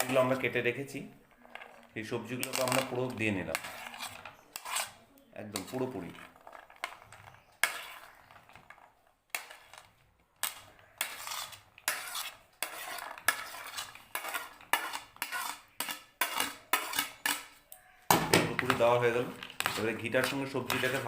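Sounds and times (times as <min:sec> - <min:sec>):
spoon scraping a dish: 0:00.0 - 0:17.6, 0:18.6 - 0:21.0.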